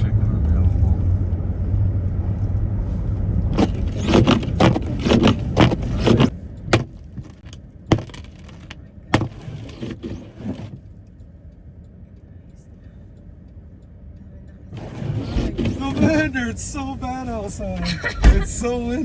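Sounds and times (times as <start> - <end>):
car cabin rumble: 0.0 - 11.1, 12.0 - 19.0.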